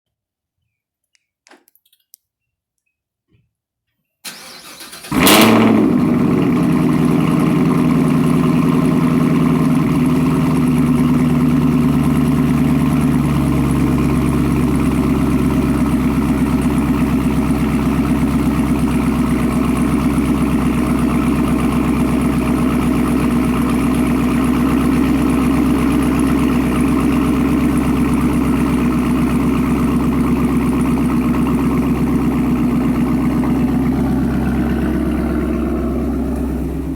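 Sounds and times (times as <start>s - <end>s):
car engine revving and idling: 5.0s - 36.9s.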